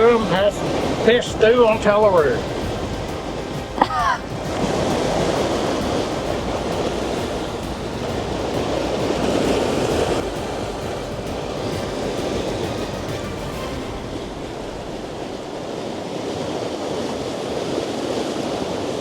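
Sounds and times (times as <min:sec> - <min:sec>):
rough sea washing along a hull: 0:00.0 - 0:19.0
wind on microphone: 0:00.0 - 0:19.0.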